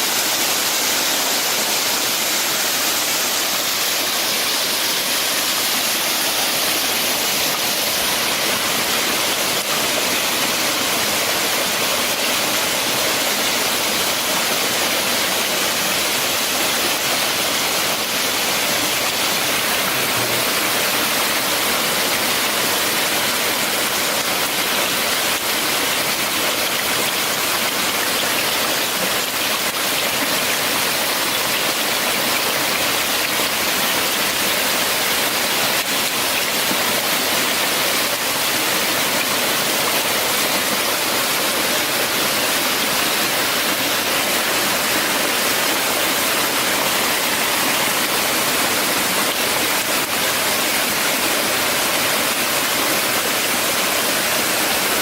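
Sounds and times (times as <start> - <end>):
flowing water rushing hiss: 0.0 - 55.0.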